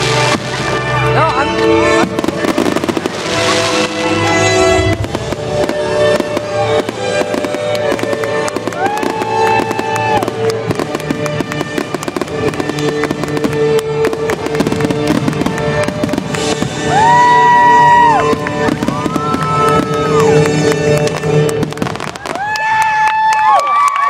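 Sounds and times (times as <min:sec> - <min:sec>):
music over loudspeakers: 0:00.0 - 0:22.1
fireworks popping and crackling: 0:00.0 - 0:24.0.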